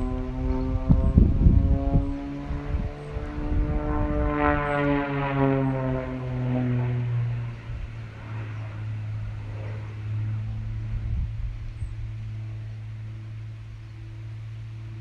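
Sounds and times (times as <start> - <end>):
low drone: 0.0 - 15.0
plane engine passing overhead: 0.0 - 15.0.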